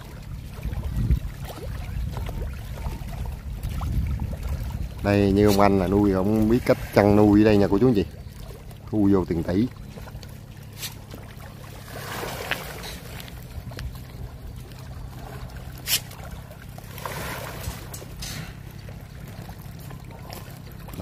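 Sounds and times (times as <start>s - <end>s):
fish splashing and slurping: 0.0s - 21.0s
steady low hum: 0.0s - 21.0s.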